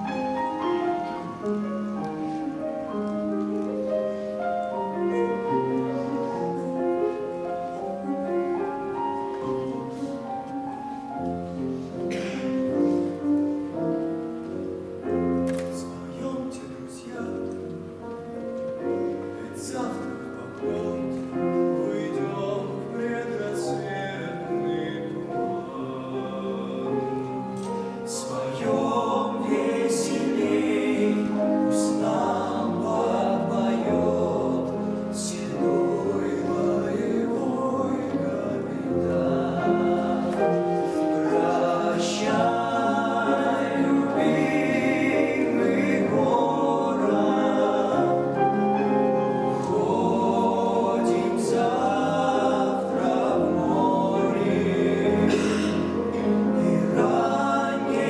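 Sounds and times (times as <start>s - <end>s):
mixed choir singing: 0.0s - 10.4s, 11.2s - 58.0s
piano accompaniment: 0.0s - 58.0s.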